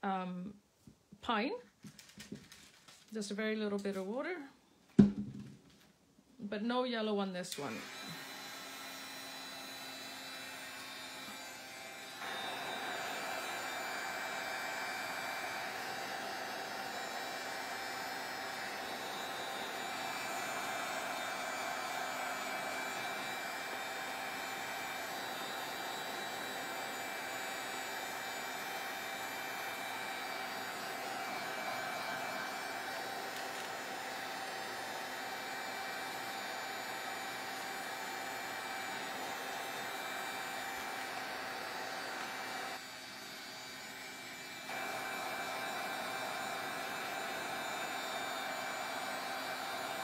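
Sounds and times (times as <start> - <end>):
heat tool blowing hot air: 7.5 - 50.0.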